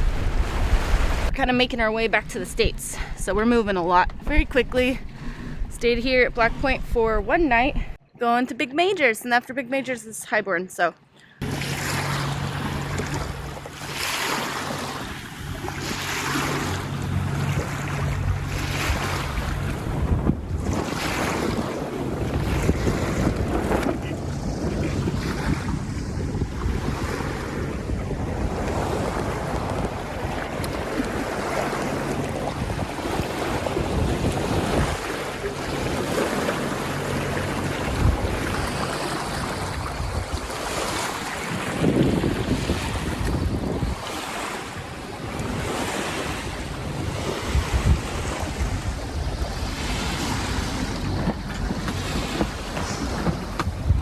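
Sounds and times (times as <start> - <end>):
water splashing along hull: 0.0 - 6.9, 11.3 - 54.0
wind buffeting microphone: 0.0 - 8.0, 11.4 - 54.0.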